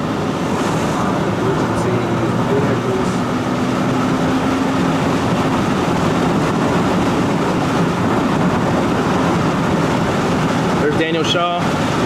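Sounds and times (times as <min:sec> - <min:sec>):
tyre and engine rumble: 0:00.0 - 0:12.0
wind: 0:00.0 - 0:12.0.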